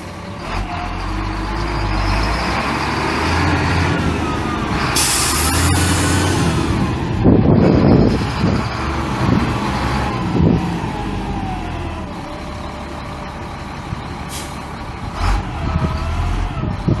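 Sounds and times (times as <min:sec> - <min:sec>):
diesel truck engine rumbling: 0:00.0 - 0:17.0
engine whine: 0:00.0 - 0:17.0.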